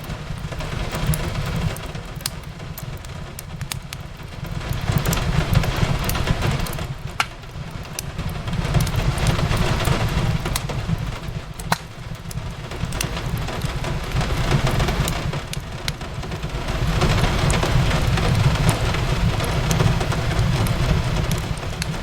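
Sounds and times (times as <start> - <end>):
rain falling on a window: 0.0 - 22.0
wood fire crackling and popping: 0.0 - 22.0.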